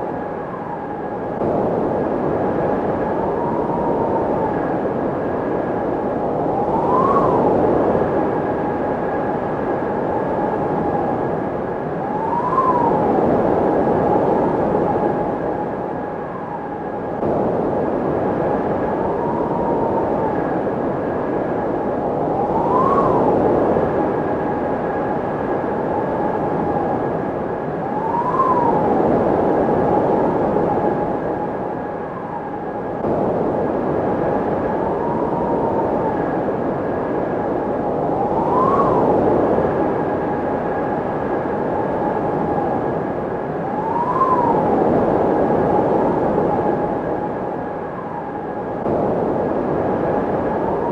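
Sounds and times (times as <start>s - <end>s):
windmill whining tone: 0.0s - 50.9s.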